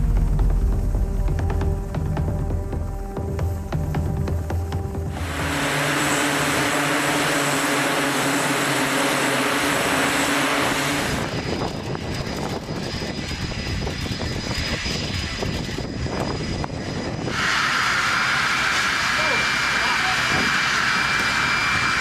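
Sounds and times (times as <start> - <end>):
low hum: 0.0 - 19.5
jet engine roar: 0.0 - 22.0.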